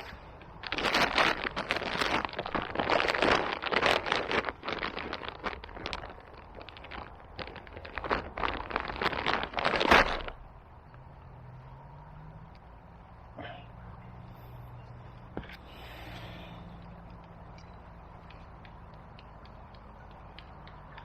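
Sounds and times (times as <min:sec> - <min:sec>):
rustling and crackling: 0:00.0 - 0:21.0.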